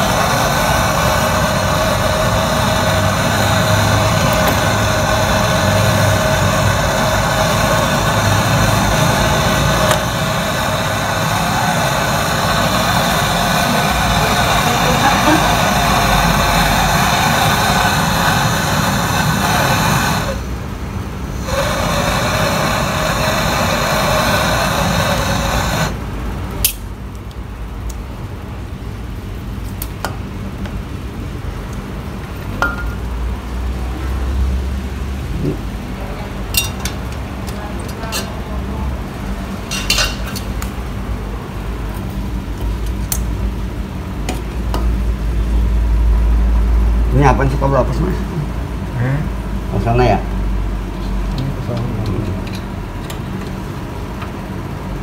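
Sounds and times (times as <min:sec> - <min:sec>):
loud steady noise: 0:00.0 - 0:51.7.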